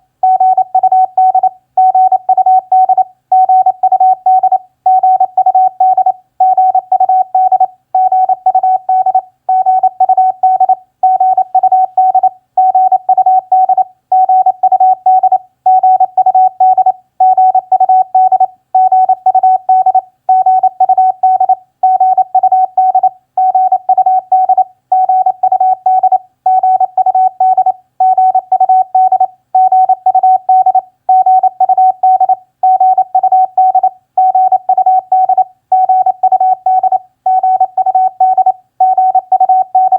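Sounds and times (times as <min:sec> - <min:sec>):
morse code tone: 0:00.2 - 0:39.9.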